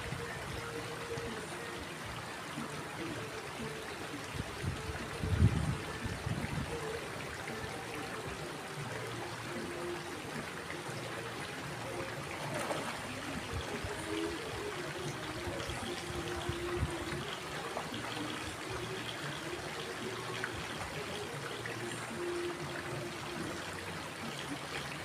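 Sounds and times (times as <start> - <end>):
water flowing and trickling: 0.0 - 25.0.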